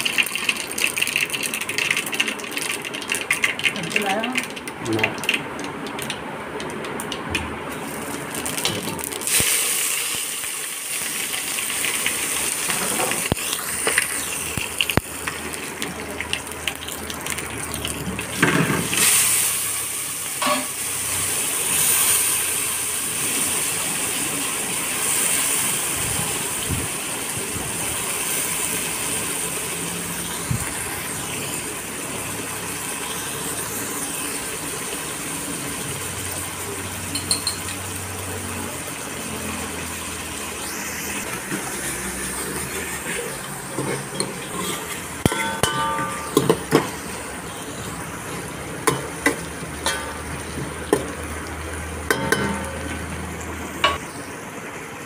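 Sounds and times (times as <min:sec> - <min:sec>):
hot oil sizzling: 0:00.0 - 0:55.0.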